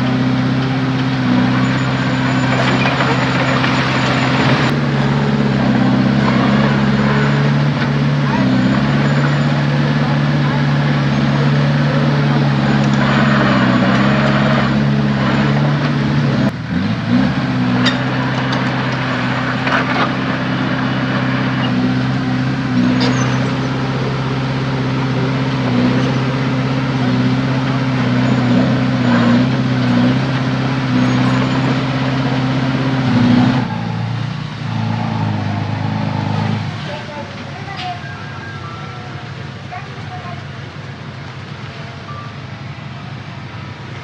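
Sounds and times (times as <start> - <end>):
diesel machinery engine running: 0.0 - 44.0.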